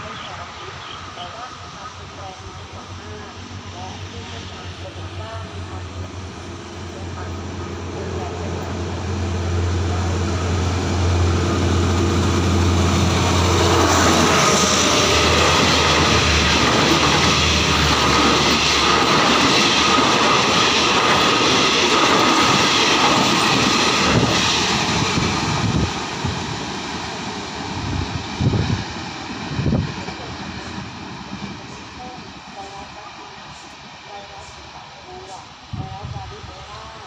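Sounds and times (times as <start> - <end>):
locomotive engine droning: 0.0 - 37.0
train coaches rushing past: 0.0 - 37.0.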